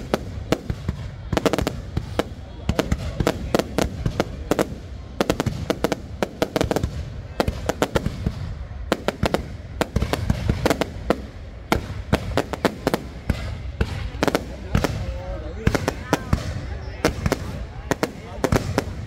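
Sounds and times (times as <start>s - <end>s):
distant explosions rumble: 0.0s - 19.0s
fireworks bangs and crackles: 0.0s - 19.0s.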